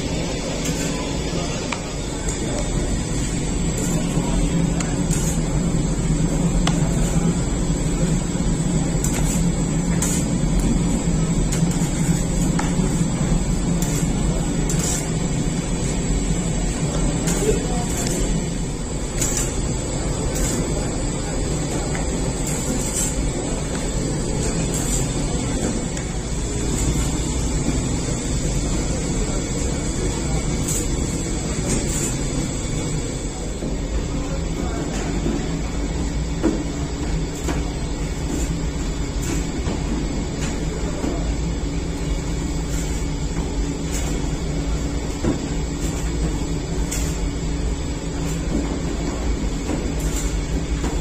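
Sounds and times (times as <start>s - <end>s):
bread oven machine drone: 0.0s - 51.0s.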